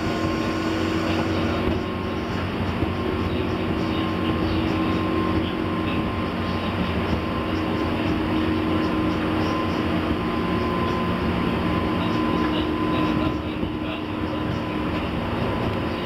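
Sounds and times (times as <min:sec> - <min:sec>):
electric train motor whining: 0:00.0 - 0:13.2
train wheels rumbling on rail: 0:00.0 - 0:16.0.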